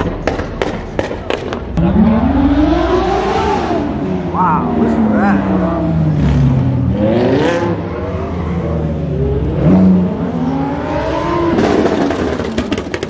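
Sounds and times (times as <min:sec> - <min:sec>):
sports car engine revving: 0:01.7 - 0:12.6.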